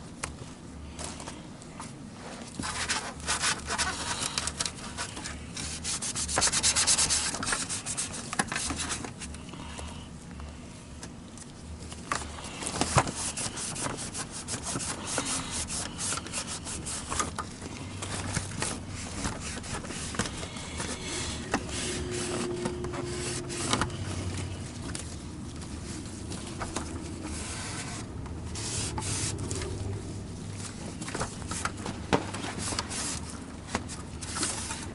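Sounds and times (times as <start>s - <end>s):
hands rubbing and scraping parts: 0.2s - 9.4s, 11.4s - 34.9s.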